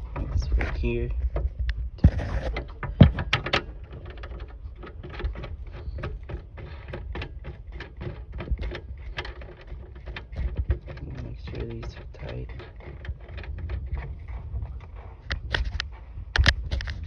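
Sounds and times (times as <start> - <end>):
screw turning with rapid clicking: 2.4 - 17.0.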